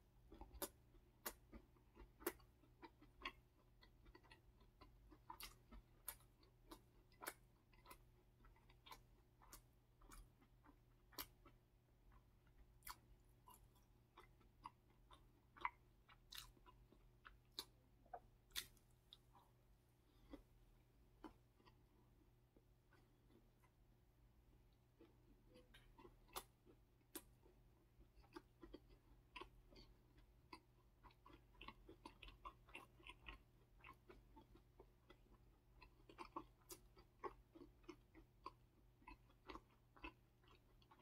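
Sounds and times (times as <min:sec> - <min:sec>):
person chewing: 0:00.2 - 0:41.0.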